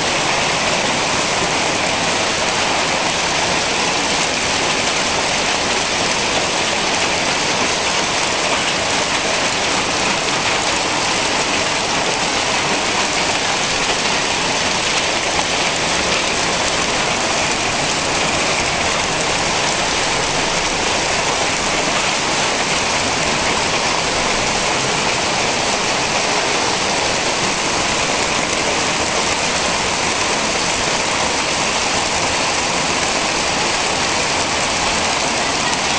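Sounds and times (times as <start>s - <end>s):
hail and rain pelting roof tiles: 0.0s - 35.9s.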